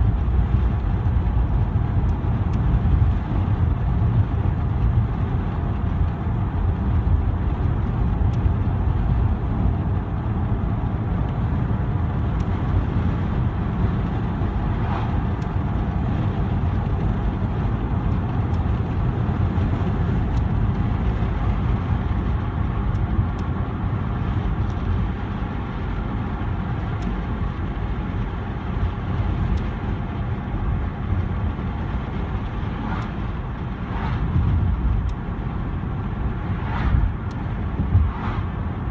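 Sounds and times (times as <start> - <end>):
road and engine rumble: 0.0 - 38.9
wind rushing through window: 0.0 - 38.9.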